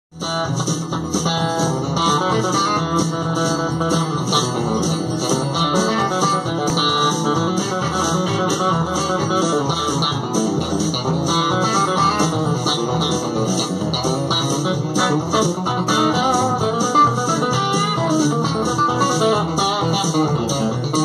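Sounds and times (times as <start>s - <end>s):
electric guitar chicken-picking: 0.2s - 21.0s.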